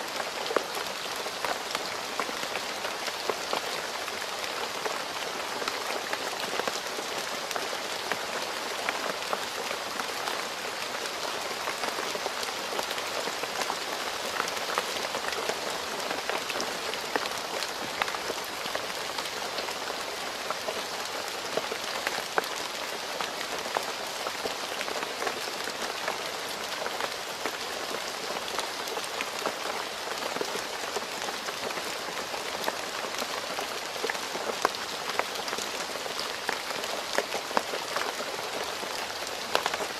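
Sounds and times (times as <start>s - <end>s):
steady rain on a road: 0.0s - 39.9s.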